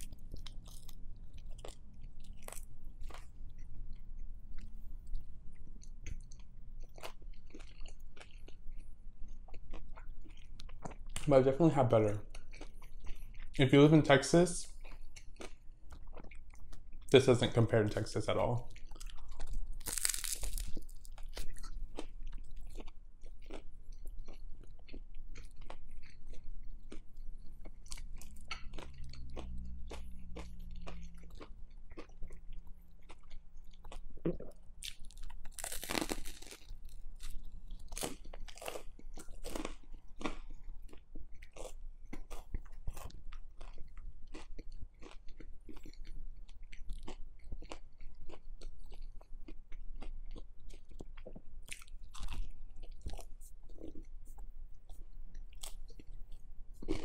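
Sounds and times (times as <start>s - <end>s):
chewing crispy bread crust: 0.0s - 57.0s.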